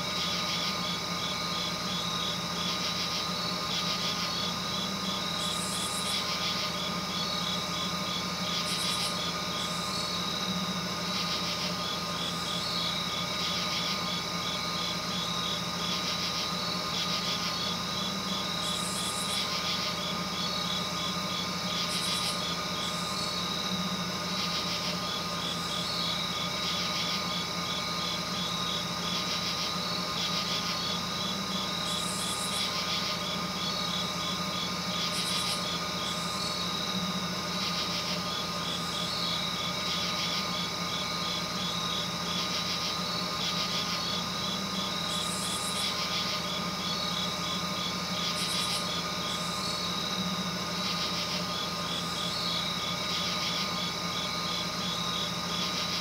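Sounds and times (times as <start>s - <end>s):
night insects chirping: 0.0s - 56.0s
steady low hum: 0.0s - 56.0s.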